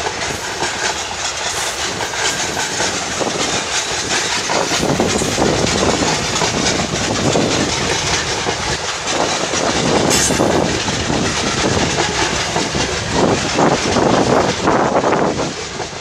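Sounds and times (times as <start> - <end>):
freight train wheels clattering: 0.0 - 16.0.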